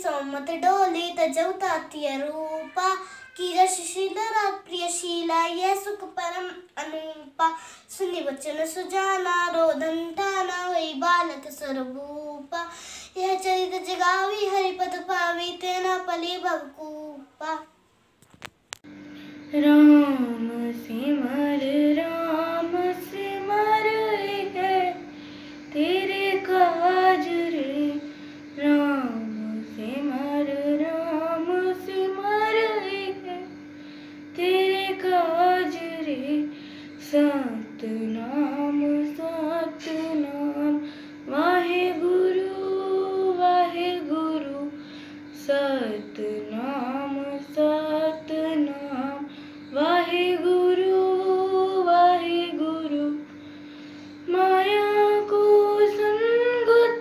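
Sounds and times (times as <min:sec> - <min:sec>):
girl singing devotional song: 0:00.0 - 0:18.0, 0:19.2 - 0:57.0.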